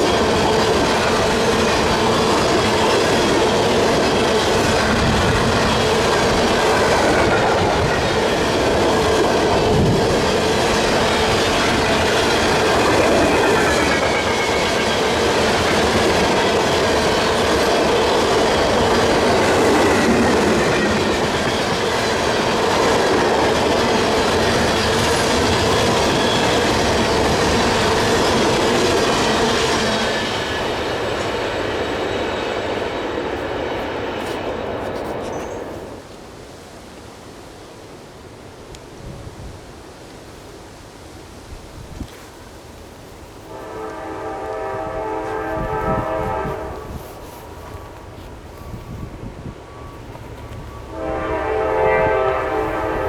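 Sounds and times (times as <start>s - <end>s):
train wheels squealing: 0.0s - 36.0s, 43.6s - 53.0s
freight train rumble and clatter: 0.0s - 36.2s, 41.6s - 53.0s.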